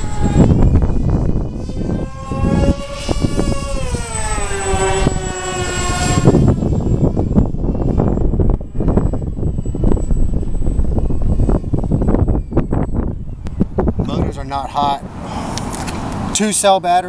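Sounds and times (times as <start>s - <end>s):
wind buffeting microphone: 0.0s - 16.4s
propeller whine: 0.0s - 16.6s.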